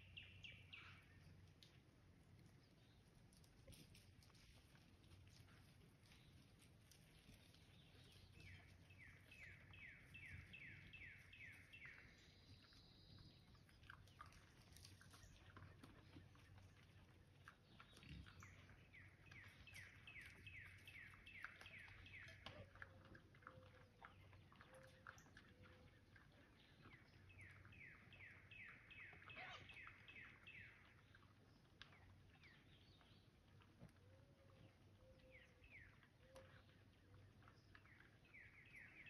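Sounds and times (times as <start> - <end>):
songbird chirping: 0.0 - 1.8, 5.4 - 39.0.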